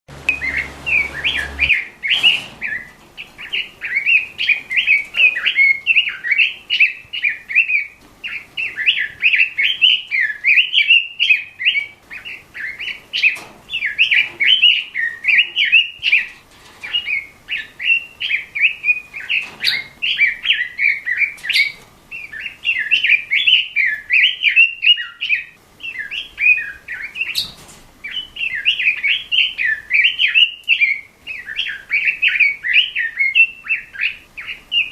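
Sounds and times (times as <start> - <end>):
bird warbling song: 0.1 - 34.9.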